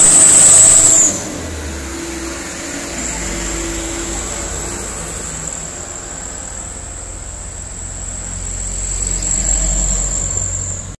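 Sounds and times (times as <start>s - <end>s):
diesel truck engines rumbling: 0.0s - 11.0s
steady high-pitched whine: 0.0s - 11.0s.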